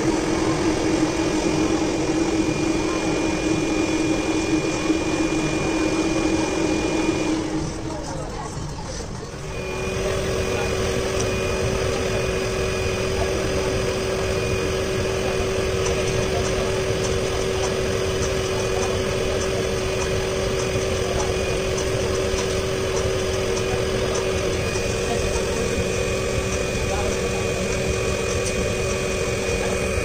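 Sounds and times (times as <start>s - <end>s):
machine hum with constant tone: 0.0s - 30.0s.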